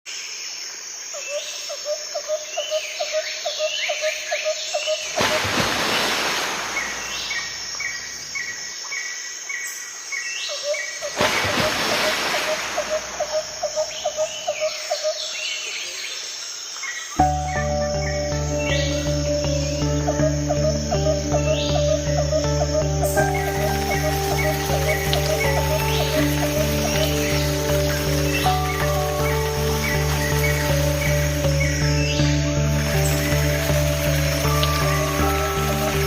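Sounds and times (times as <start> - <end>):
birds calling: 1.2 - 36.0.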